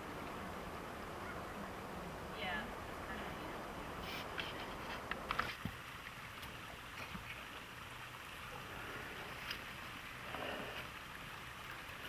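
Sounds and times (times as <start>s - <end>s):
faint water splashing: 0.0s - 12.0s
stream water rushing: 0.0s - 12.0s.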